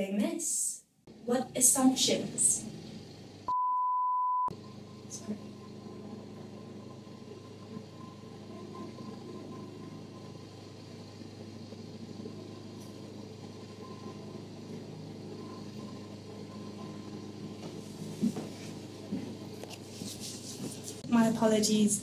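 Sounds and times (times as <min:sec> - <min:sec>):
engine idling: 0:01.1 - 0:03.5, 0:04.5 - 0:20.8.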